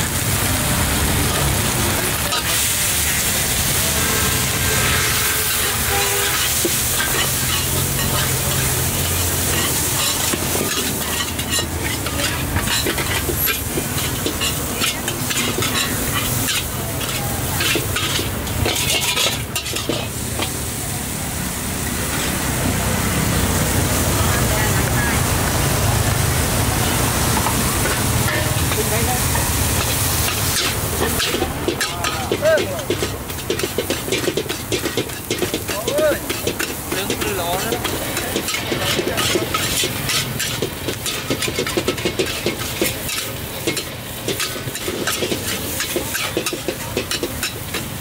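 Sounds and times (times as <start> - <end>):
food sizzling in a wok: 0.0 - 48.0
metal spatula scraping wok: 1.2 - 20.6, 27.2 - 48.0.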